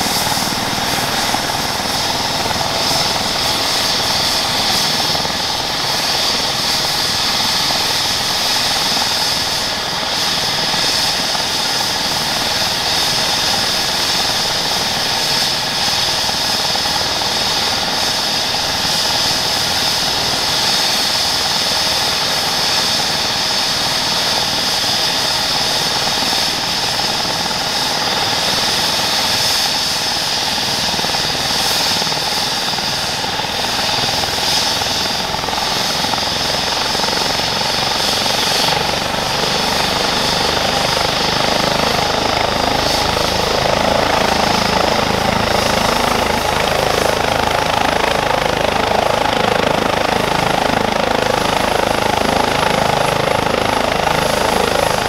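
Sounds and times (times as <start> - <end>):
helicopter engine whine: 0.0 - 55.0.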